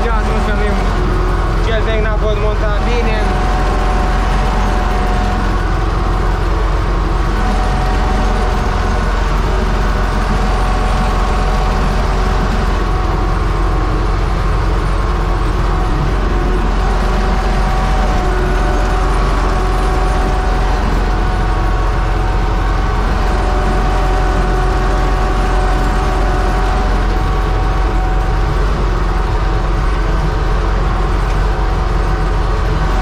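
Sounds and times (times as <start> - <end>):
constant whine: 0.0 - 33.0
tractor engine rumble: 0.0 - 33.0.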